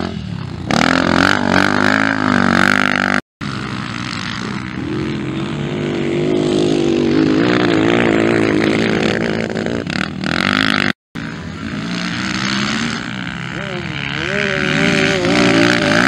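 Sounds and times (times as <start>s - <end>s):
motorbike engine revving: 0.0s - 16.0s.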